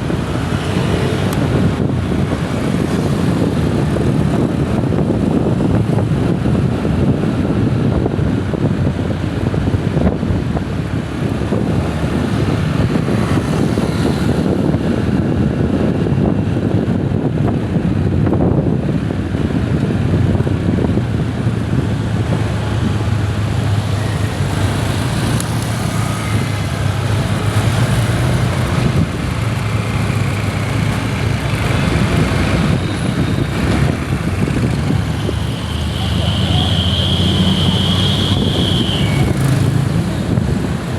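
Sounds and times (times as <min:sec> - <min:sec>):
low engine and traffic rumble: 0:00.0 - 0:40.9.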